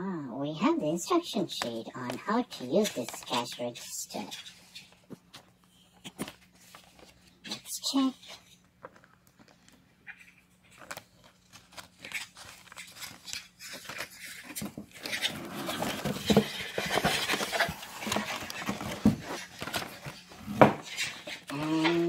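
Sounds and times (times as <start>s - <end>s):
paper handling: 2.1s - 7.6s, 8.2s - 22.0s
plastic bag and cardboard crinkling: 2.1s - 22.0s.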